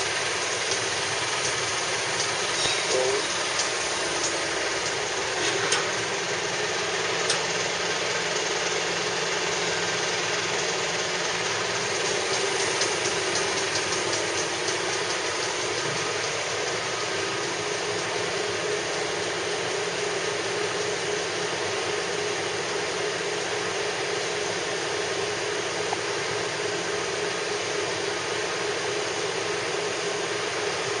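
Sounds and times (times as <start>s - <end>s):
machinery droning with hiss: 0.0s - 31.0s.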